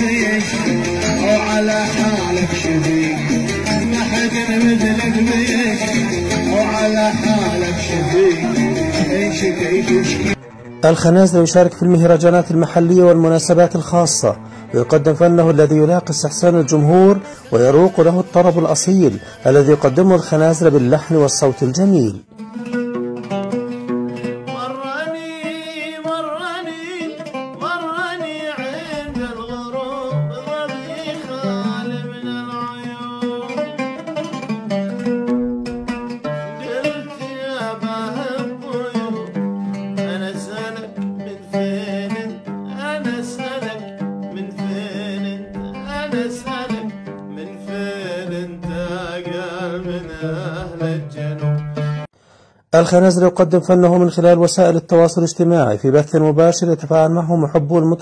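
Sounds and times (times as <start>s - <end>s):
man singing ornamented line: 0.0s - 22.3s, 24.2s - 34.6s, 36.3s - 52.1s, 52.7s - 58.0s
oud plucked notes: 0.0s - 52.1s.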